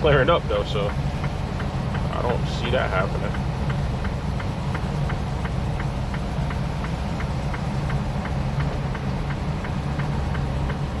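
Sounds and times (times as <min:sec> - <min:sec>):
engine and road rumble: 0:00.0 - 0:11.0
light regular ticking: 0:00.0 - 0:11.0.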